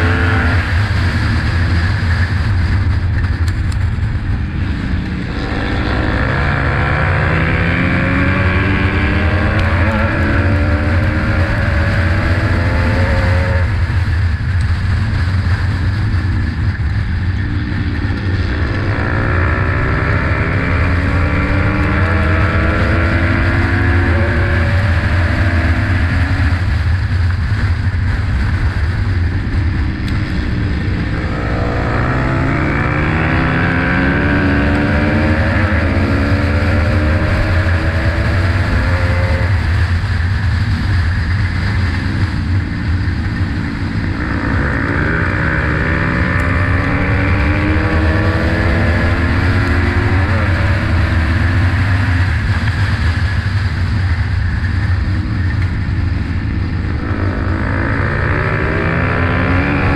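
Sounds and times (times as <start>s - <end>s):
dirt bike engine accelerating: 0.0s - 59.9s
rush of noise: 0.0s - 59.9s.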